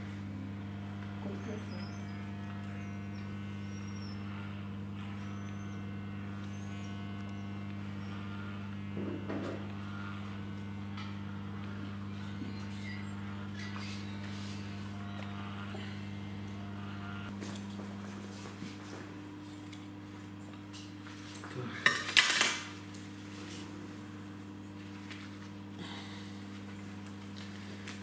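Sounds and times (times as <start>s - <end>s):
electric clippers humming: 0.0s - 28.0s.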